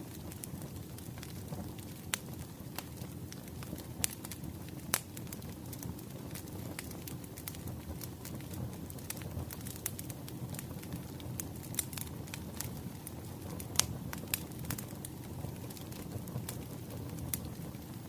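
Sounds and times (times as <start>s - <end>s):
low rumble of burning logs: 0.0s - 18.0s
wood fire crackling and popping: 0.0s - 18.0s.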